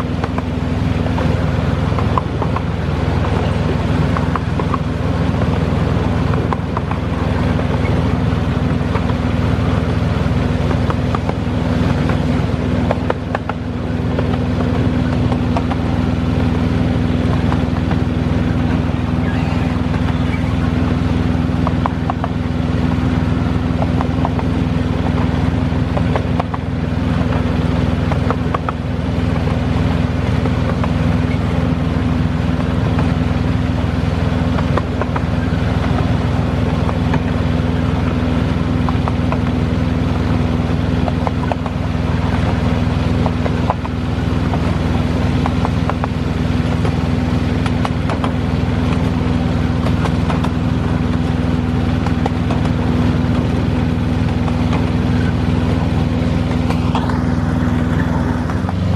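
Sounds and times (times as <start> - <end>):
miniature locomotive engine drone: 0.0 - 58.9
wheels clicking on track: 0.0 - 58.9.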